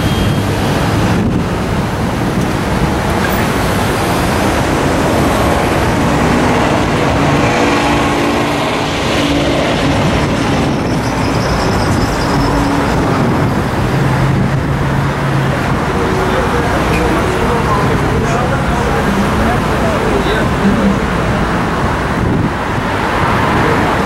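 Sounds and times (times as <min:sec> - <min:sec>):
wind on microphone: 0:00.0 - 0:16.2, 0:17.1 - 0:24.0
road traffic: 0:00.0 - 0:24.0.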